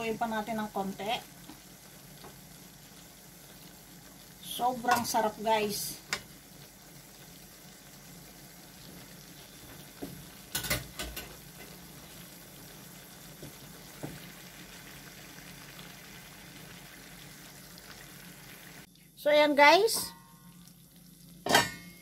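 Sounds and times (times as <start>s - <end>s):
food simmering in a wok: 0.0s - 22.0s.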